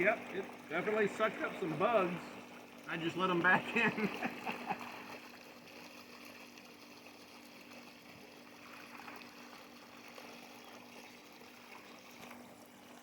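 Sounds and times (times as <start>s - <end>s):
pool pump humming: 0.0s - 13.0s
water trickling: 0.0s - 13.0s.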